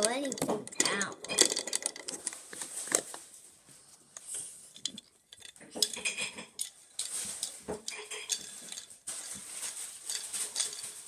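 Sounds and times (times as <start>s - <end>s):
plastic blocks clattering: 0.0s - 3.3s, 4.2s - 11.0s.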